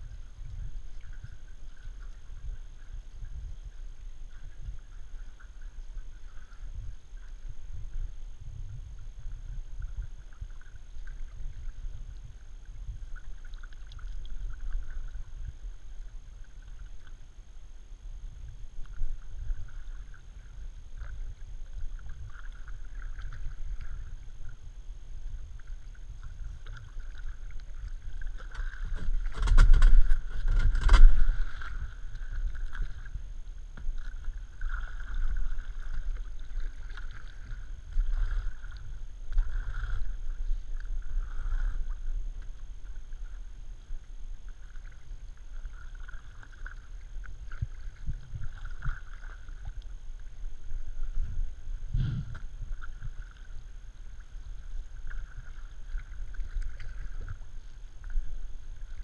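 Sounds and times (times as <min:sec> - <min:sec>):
paddle strokes: 0:00.0 - 0:08.1, 0:18.3 - 0:59.0
water washing along hull: 0:00.0 - 0:17.5, 0:18.4 - 0:59.0
kayak crackling through thin ice: 0:00.0 - 0:59.0.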